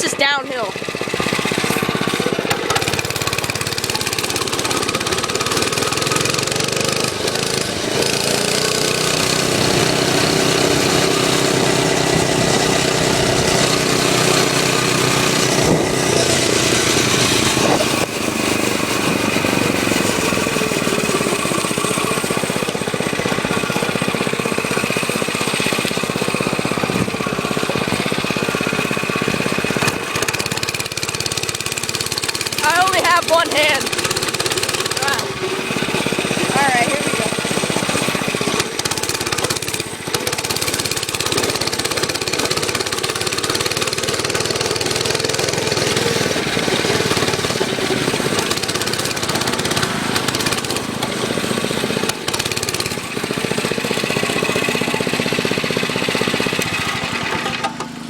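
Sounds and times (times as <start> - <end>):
mini bike engine running: 0.0 - 58.0.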